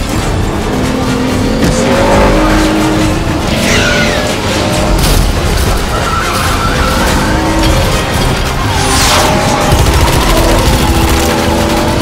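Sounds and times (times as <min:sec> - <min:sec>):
action film music: 0:00.0 - 0:12.0
car engines: 0:00.0 - 0:12.0.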